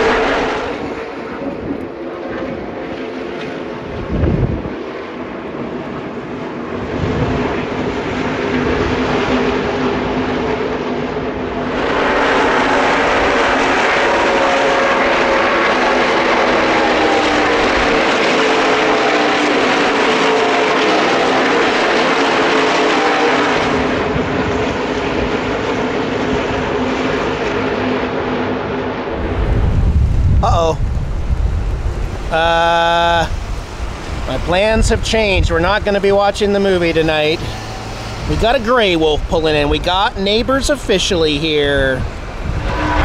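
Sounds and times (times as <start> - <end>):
race truck engine at full throttle: 0.0 - 43.0.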